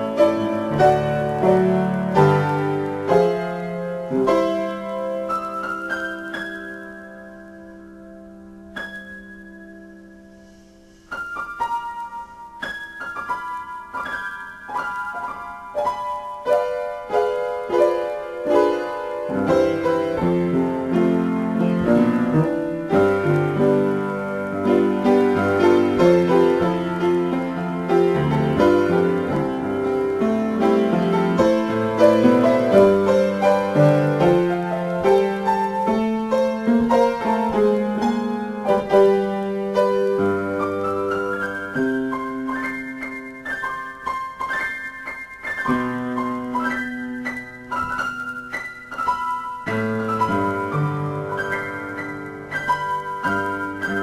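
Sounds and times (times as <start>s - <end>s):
solo piano: 0.0s - 54.0s.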